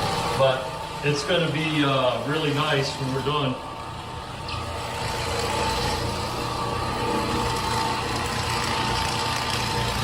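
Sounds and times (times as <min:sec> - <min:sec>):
rotary floor machine scrubbing: 0:00.0 - 0:10.0.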